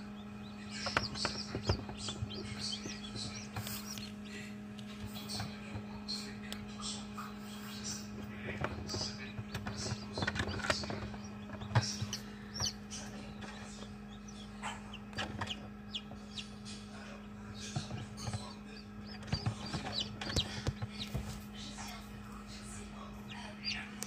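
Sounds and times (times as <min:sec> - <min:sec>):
chick peeping: 0:00.0 - 0:24.0
incubator humming: 0:00.0 - 0:24.0.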